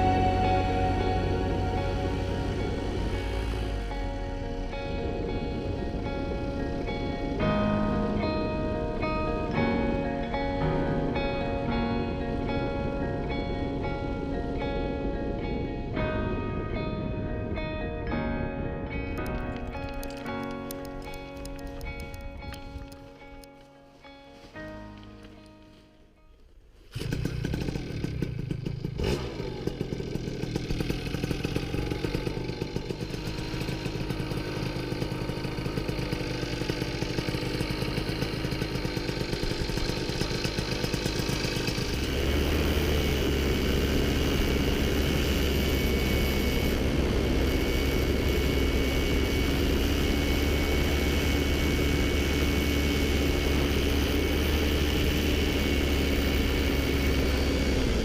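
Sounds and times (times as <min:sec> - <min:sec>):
paramotor engine running: 0:00.0 - 0:16.4, 0:19.2 - 0:23.5, 0:26.9 - 0:58.0.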